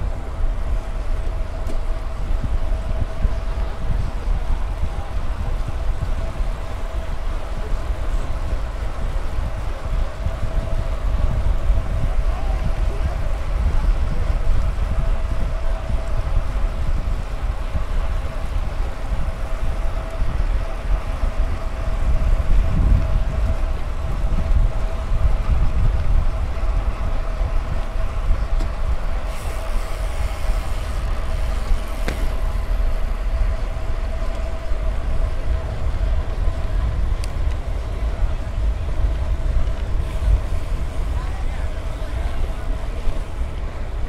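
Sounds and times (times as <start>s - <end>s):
bicycle tyre noise: 0.0s - 44.0s
wind on microphone: 0.0s - 44.0s.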